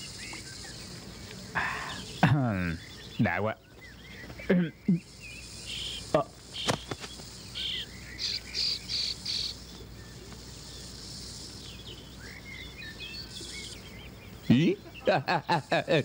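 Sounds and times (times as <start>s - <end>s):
birds chirping: 0.0s - 16.0s
insects chirping: 0.0s - 16.0s.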